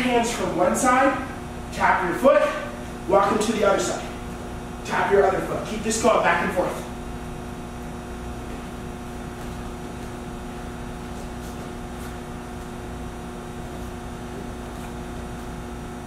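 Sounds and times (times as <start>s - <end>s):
machine drone room hum: 0.0s - 16.0s.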